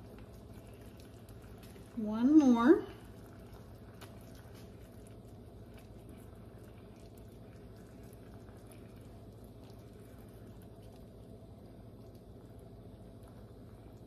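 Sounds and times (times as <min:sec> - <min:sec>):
low steady hum: 0:00.0 - 0:14.0
sauce simmering in a pan: 0:00.0 - 0:14.0.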